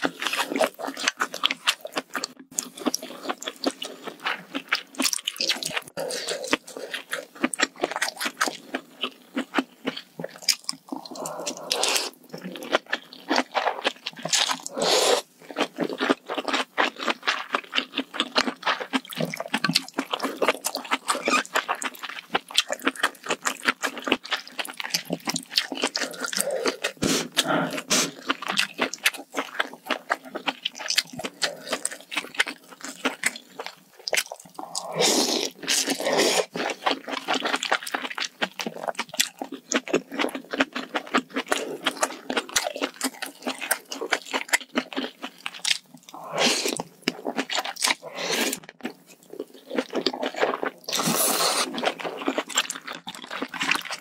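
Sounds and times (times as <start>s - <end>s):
wet chewing mouth sounds: 0.0s - 54.0s.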